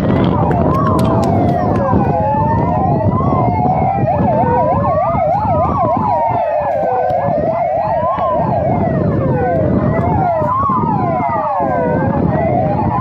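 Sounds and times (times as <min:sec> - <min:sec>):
fire engine sirens wailing: 0:00.0 - 0:13.0
siren fast yelp: 0:00.0 - 0:13.0.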